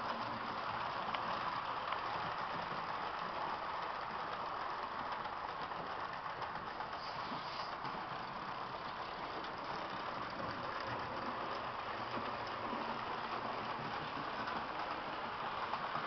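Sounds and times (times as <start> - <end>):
model train whirring on rails: 0.0 - 16.0.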